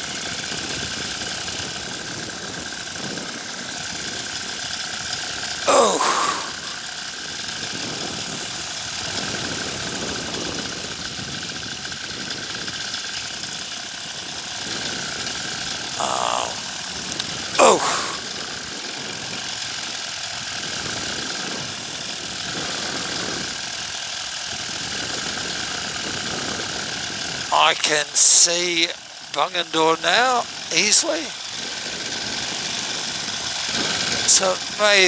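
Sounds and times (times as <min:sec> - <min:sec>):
paramotor engine drone: 0:00.0 - 0:35.0.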